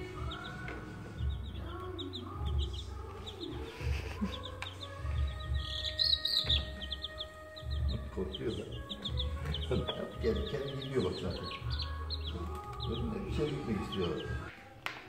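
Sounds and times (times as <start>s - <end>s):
baby chicks peeping: 0.0s - 14.6s.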